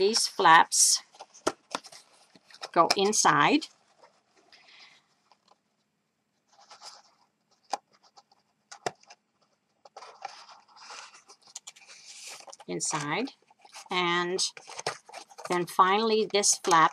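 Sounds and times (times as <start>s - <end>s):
cardstock rustling and scraping: 0.0s - 5.6s, 6.5s - 16.9s.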